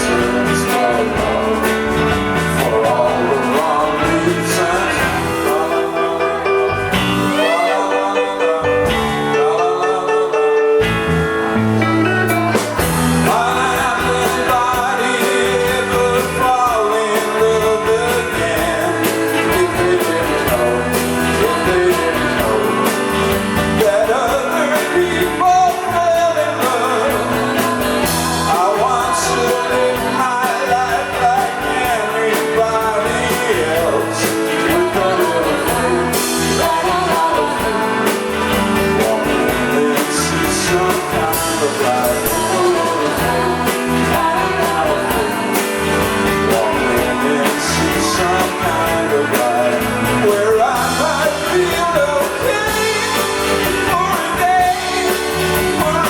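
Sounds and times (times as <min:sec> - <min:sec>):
electric guitar: 0:00.0 - 0:56.0
live rock band playing: 0:00.0 - 0:56.0
person singing lead vocal: 0:00.0 - 0:56.0.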